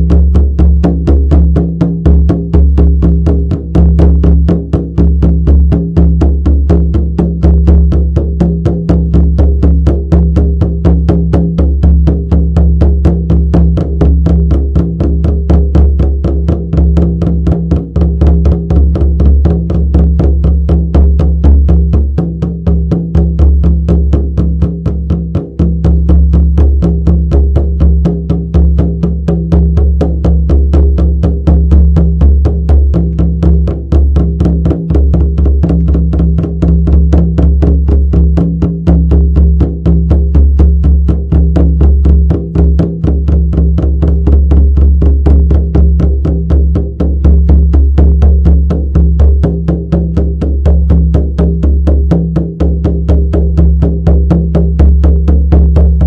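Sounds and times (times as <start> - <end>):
frame drum beaten steadily: 0.0 - 56.0.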